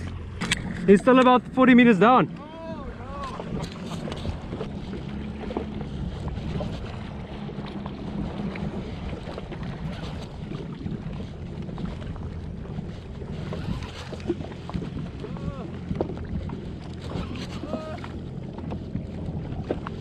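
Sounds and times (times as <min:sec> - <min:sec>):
jet ski engine humming: 0:00.0 - 0:20.0
wind buffeting microphone: 0:00.0 - 0:20.0.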